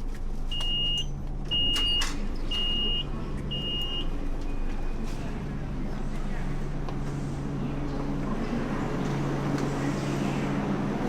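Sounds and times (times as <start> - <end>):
train humming: 1.2 - 11.0.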